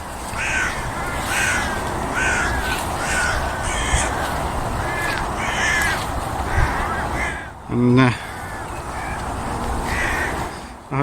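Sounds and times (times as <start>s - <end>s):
crows cawing: 0.3s - 10.7s.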